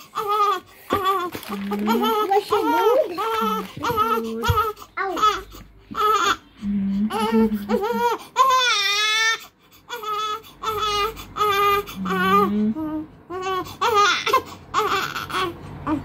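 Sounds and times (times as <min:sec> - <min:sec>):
newborn baby crying: 0:00.0 - 0:06.5, 0:07.1 - 0:16.0.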